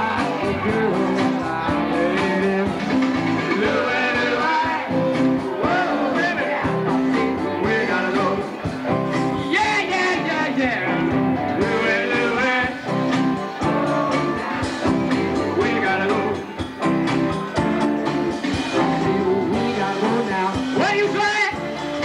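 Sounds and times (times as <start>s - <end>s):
singers on microphones: 0.0s - 17.0s, 18.5s - 22.0s
rock band with guitar: 0.0s - 22.0s.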